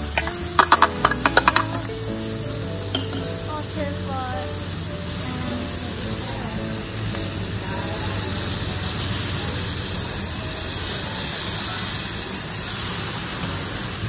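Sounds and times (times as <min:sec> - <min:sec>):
steady loud hiss: 0:00.0 - 0:14.0.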